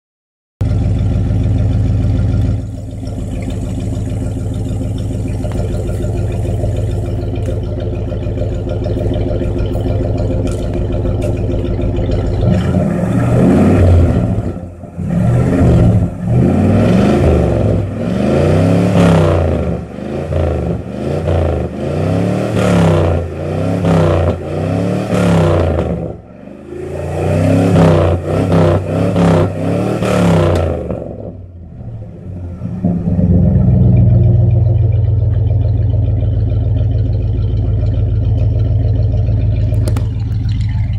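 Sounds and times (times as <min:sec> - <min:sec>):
car engine idling and revving: 0:00.6 - 0:40.9.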